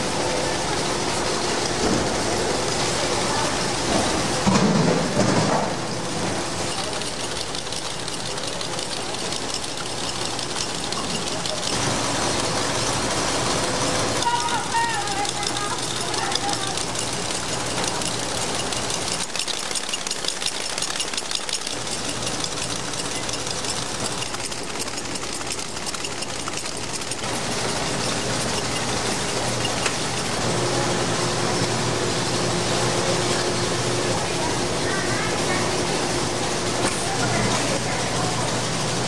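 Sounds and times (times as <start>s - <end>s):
machinery clatter: 0.0s - 39.0s
machinery hum: 0.0s - 39.0s.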